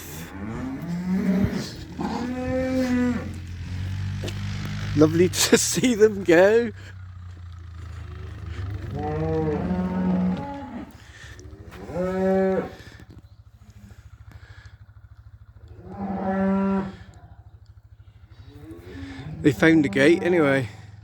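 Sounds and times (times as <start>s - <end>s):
cattle mooing: 0.0s - 6.9s, 7.7s - 13.1s, 15.4s - 21.0s
steady low hum: 0.0s - 19.5s.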